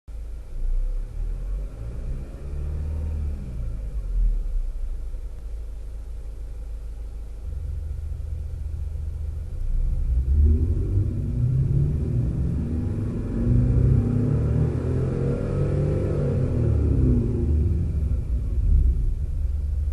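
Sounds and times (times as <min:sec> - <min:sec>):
imitation engine drone in cabin: 0:00.1 - 0:19.9.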